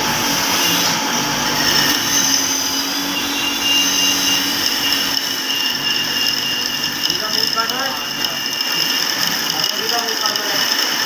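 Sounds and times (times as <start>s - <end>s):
machine whirring: 0.0s - 11.0s.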